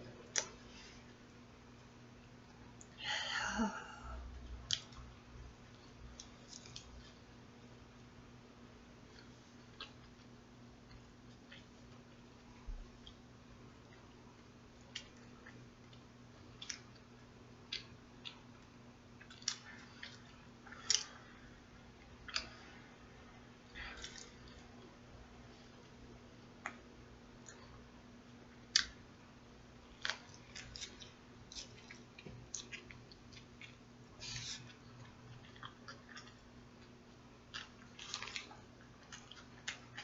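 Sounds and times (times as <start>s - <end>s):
faint electrical hum: 0.0s - 40.0s
person chewing a sandwich: 4.3s - 7.3s, 9.0s - 23.0s, 23.6s - 29.1s, 29.7s - 40.0s.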